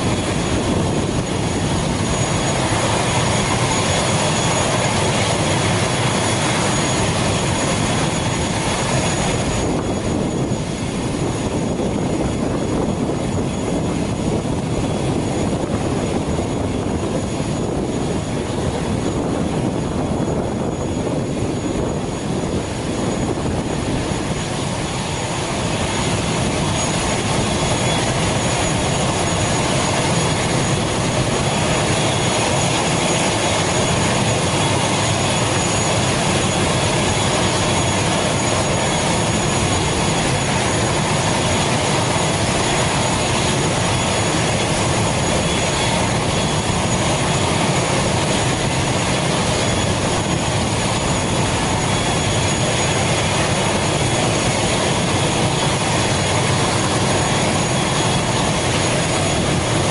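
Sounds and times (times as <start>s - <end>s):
high engine whine: 0.0s - 59.9s
turboprop engine running: 0.0s - 59.9s.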